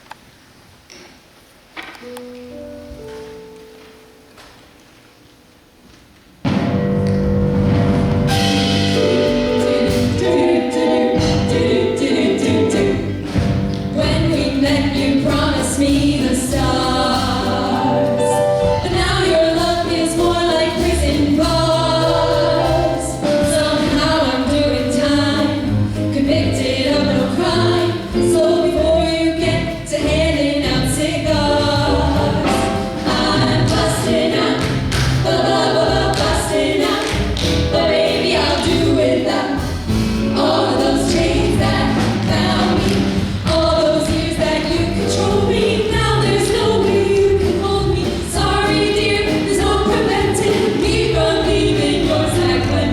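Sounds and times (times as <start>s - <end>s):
group of voices singing: 9.0s - 52.9s.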